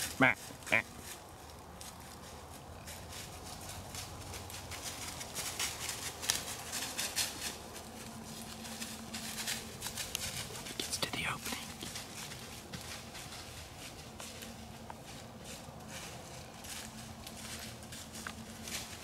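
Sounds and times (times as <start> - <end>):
rustling and crunching in dry leaves: 0.0 - 19.0.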